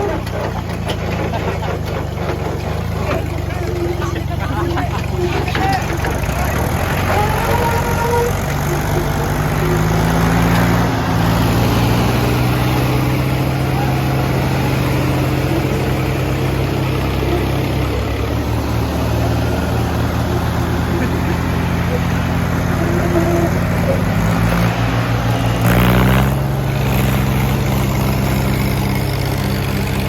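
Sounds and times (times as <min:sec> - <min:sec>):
tractor diesel engines under load: 0:00.0 - 0:30.0.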